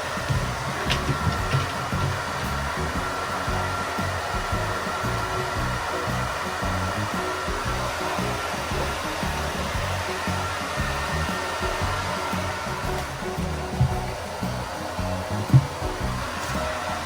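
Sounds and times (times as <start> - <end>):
background music with bass: 0.0 - 17.0
hair dryer blowing: 0.0 - 17.0.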